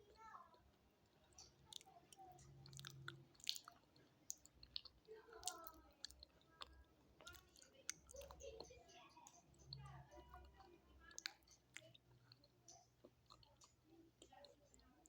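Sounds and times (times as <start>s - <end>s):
biting and chewing mineral sticks: 0.0s - 15.0s.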